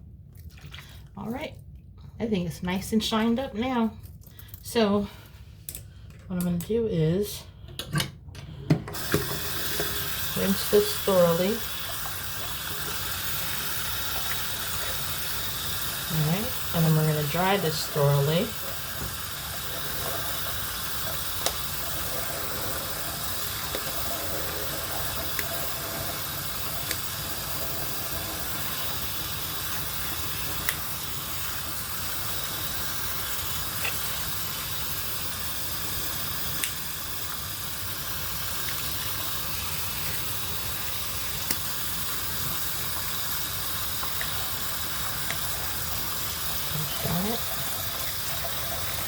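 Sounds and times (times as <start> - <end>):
tap water running into sink: 8.9 - 49.0.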